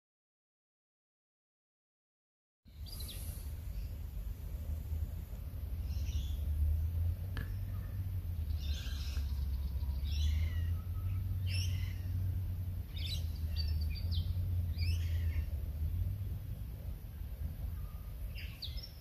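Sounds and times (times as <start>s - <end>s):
birds calling: 2.7s - 19.0s
steady low rumble: 2.7s - 19.0s.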